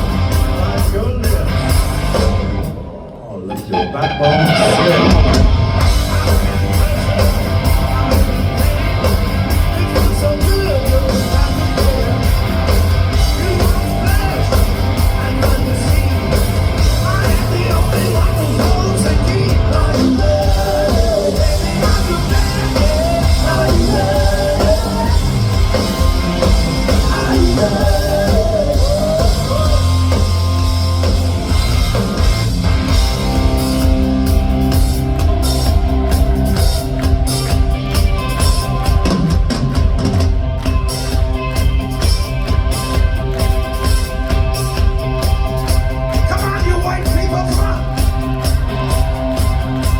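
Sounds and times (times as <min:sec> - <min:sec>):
heavy steady bass: 0:00.0 - 0:02.9, 0:04.0 - 0:49.9
drums: 0:00.0 - 0:49.9
guitars: 0:00.0 - 0:49.9
live rock band playing: 0:00.0 - 0:49.9.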